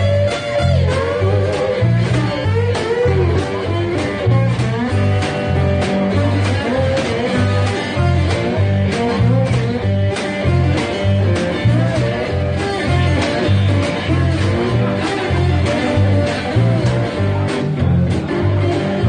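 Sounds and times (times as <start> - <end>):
dobro slide notes: 0.0 - 19.0
low repeating bass: 0.0 - 19.0
steady drum beat: 0.0 - 19.0.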